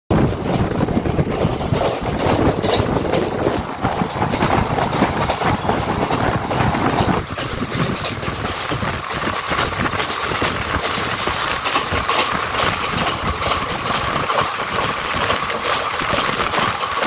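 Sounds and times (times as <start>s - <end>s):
train wheels rattling on rails: 0.1s - 17.0s.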